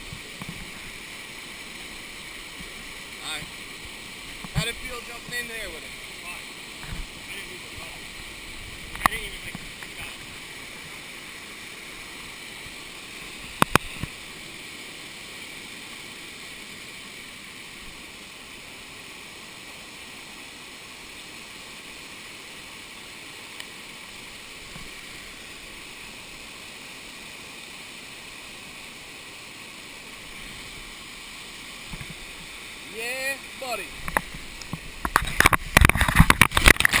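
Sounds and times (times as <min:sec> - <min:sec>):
waterfall rushing over rock: 0:00.0 - 0:37.0.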